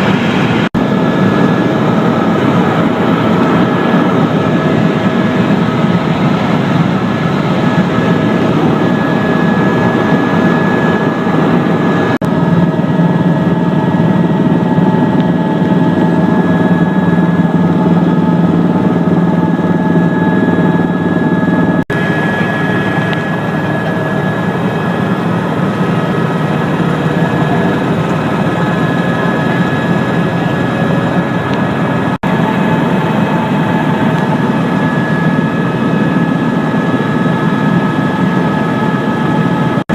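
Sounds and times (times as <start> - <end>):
constant whine: 0.0 - 39.9
helicopter engine and rotor drone: 0.0 - 39.9.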